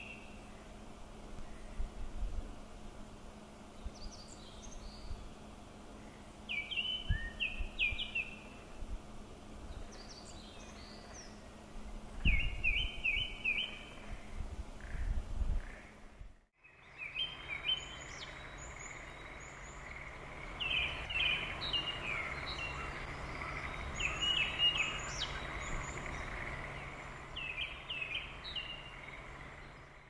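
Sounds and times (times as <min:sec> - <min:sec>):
background hiss and hum: 0:00.0 - 0:30.0.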